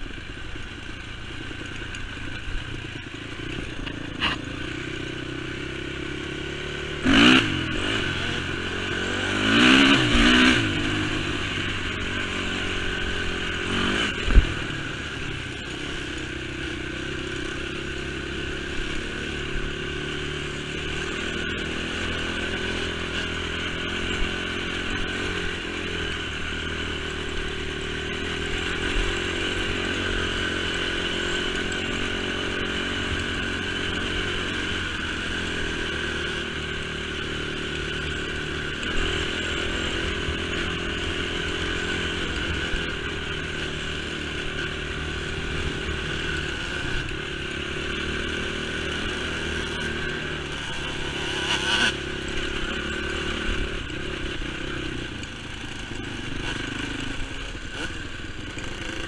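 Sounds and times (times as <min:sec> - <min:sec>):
quad engine revving: 0:03.0 - 0:59.0.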